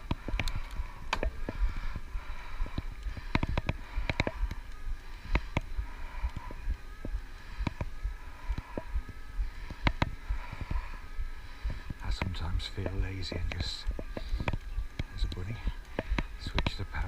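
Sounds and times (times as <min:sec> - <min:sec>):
sharp clicks and rattles: 0:00.0 - 0:10.9, 0:11.6 - 0:17.0
faint electric motor whine: 0:00.0 - 0:17.0.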